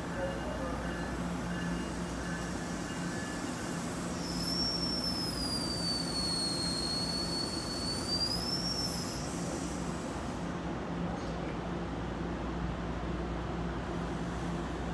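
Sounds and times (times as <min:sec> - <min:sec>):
train rolling past: 0:00.0 - 0:14.9.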